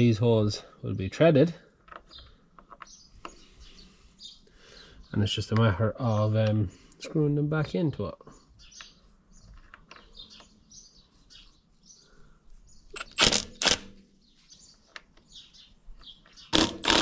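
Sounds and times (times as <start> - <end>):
faint bird chirping: 0.0 - 13.4, 14.0 - 16.6.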